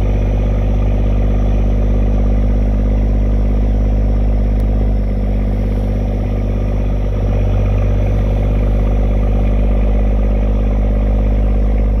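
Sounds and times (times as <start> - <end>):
boat engine pulsing: 0.0 - 12.0.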